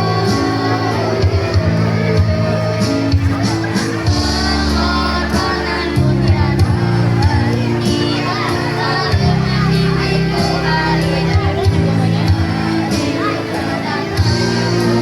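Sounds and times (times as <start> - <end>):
children's choir singing: 0.0 - 15.0
pop backing track: 0.0 - 15.0.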